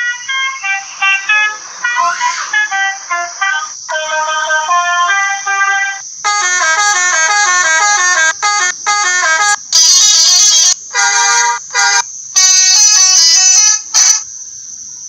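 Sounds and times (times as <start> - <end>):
multi-tone musical air horn: 0.0 - 14.2.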